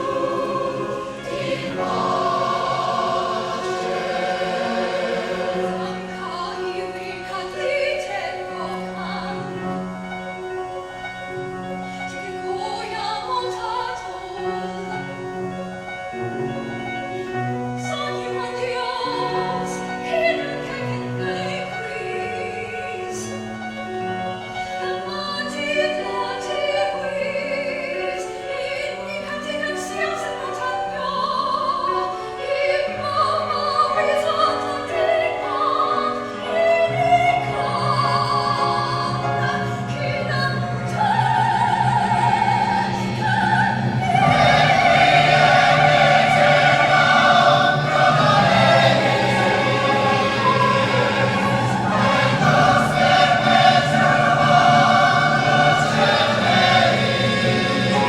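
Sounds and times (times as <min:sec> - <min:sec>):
choirs singing: 0:00.0 - 0:10.4, 0:16.5 - 0:58.0.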